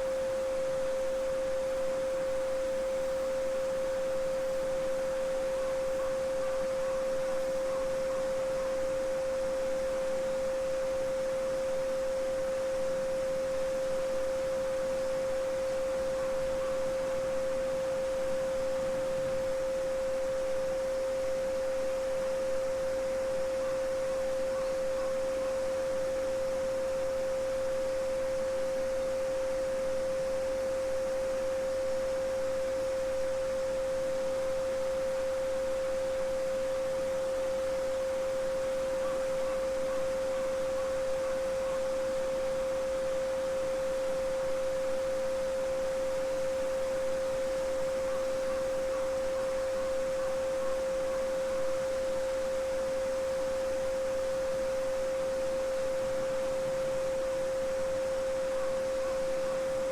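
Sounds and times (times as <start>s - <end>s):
steady sine tone: 0.0s - 59.9s.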